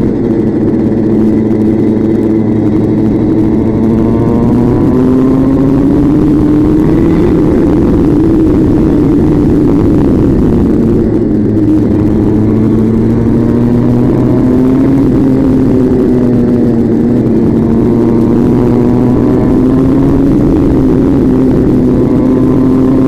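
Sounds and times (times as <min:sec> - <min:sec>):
constant rushing noise: 0:00.0 - 0:23.0
vehicle engine running at speed: 0:00.0 - 0:23.0.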